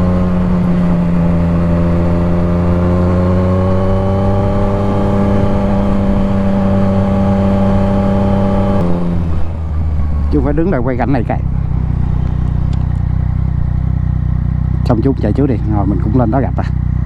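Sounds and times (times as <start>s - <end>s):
motorcycle engine under load: 0.0s - 17.0s.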